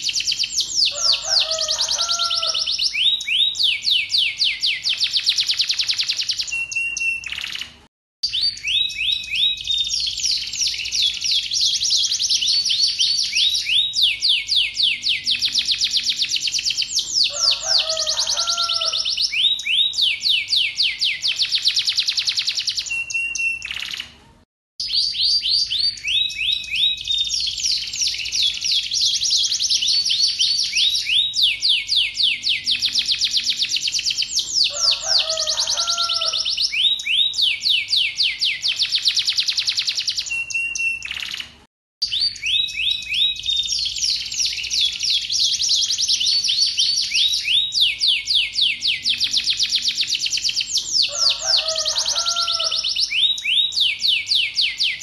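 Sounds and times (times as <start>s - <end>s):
canary singing rapid trills: 0.0s - 24.2s, 24.8s - 55.0s.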